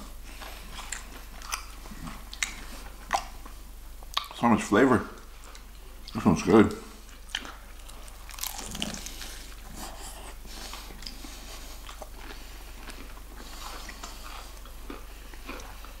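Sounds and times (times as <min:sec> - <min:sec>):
crunchy chewing of fried chicken: 0:00.0 - 0:04.5, 0:05.2 - 0:16.0.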